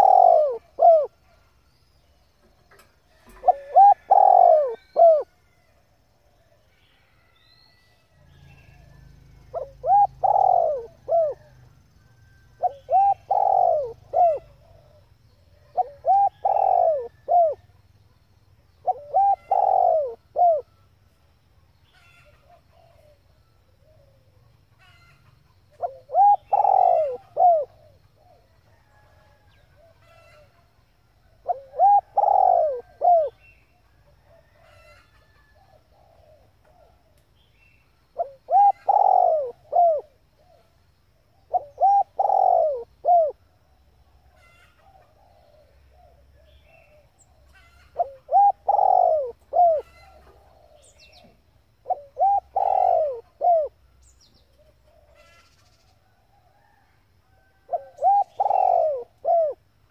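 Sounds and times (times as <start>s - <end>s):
dove cooing: 0.0s - 1.4s, 3.2s - 5.3s, 8.6s - 11.9s, 12.6s - 17.8s, 18.8s - 20.8s, 22.0s - 33.5s, 34.2s - 37.2s, 38.2s - 53.8s, 54.4s - 59.7s.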